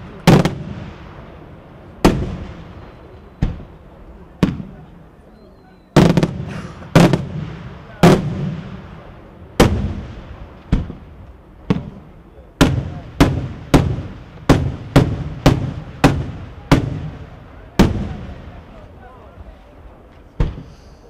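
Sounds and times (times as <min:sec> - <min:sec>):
fireworks bangs echoing: 0:00.0 - 0:05.2, 0:05.9 - 0:19.1, 0:20.2 - 0:21.0.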